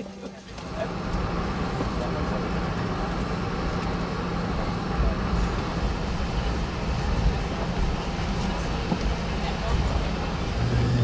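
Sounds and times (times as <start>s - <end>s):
aircraft engines humming: 0.0s - 11.0s.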